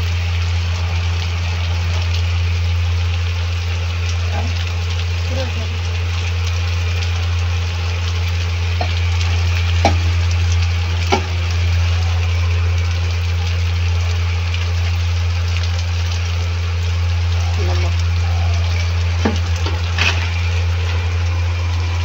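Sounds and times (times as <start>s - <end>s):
low hum: 0.0s - 22.0s
onions and tomatoes sizzling: 0.0s - 22.0s.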